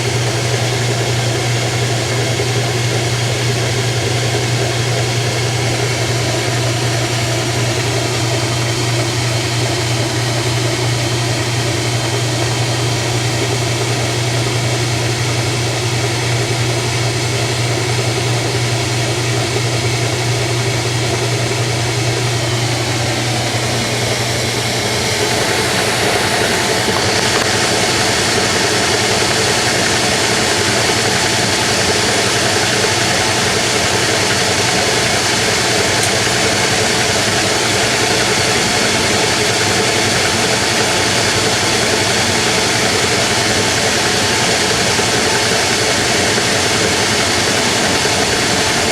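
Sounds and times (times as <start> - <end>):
washing machine hissing: 0.0 - 48.9
washing machine motor humming: 0.0 - 48.9.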